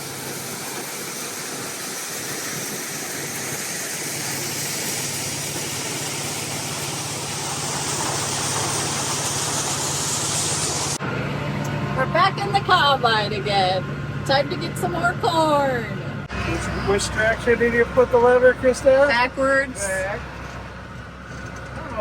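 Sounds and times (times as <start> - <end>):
fan noise rushing: 0.0 - 22.0.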